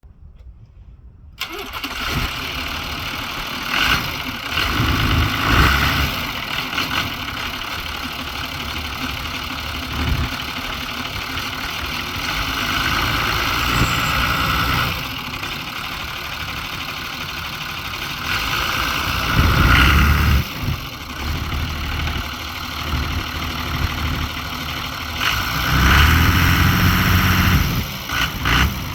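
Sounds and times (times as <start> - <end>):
tractor diesel engine idling: 1.4 - 28.9.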